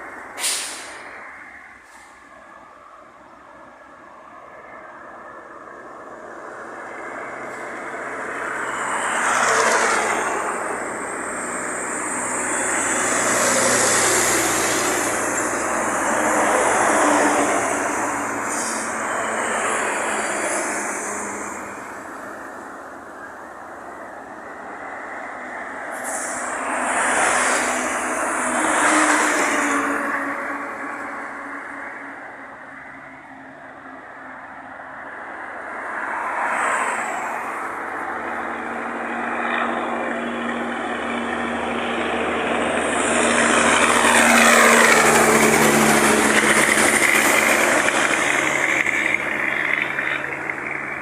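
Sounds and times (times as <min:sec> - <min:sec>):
vehicles passing by: 0:00.0 - 0:51.0.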